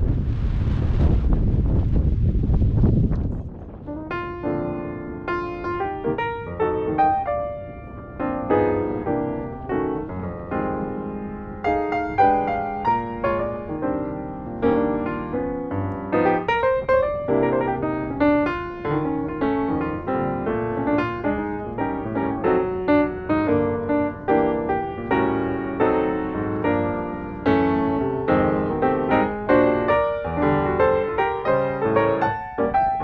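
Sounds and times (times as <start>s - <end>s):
solo piano melody: 3.8s - 33.0s.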